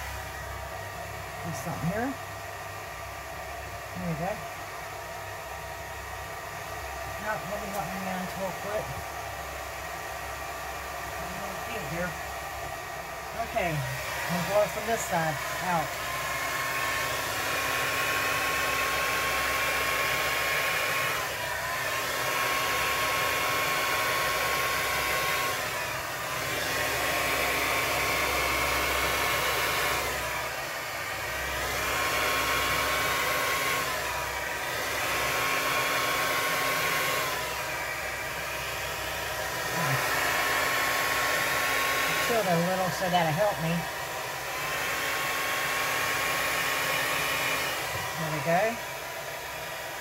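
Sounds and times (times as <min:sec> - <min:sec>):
hair dryer blowing: 0:00.0 - 0:50.0.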